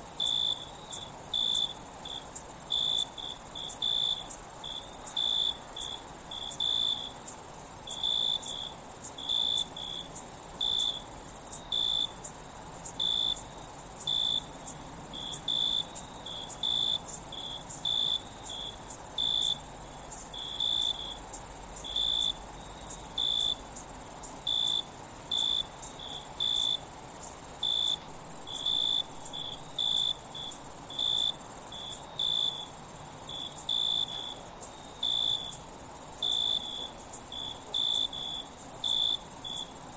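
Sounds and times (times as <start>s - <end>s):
crickets chirping: 0.0s - 39.9s
high-pitched insect trill: 0.1s - 39.9s.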